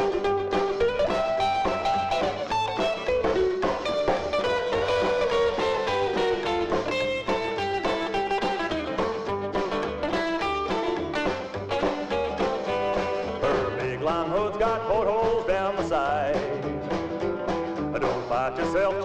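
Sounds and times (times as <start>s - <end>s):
bass: 0.0s - 19.0s
drum beat: 0.0s - 19.0s
lead guitar run: 0.0s - 19.0s.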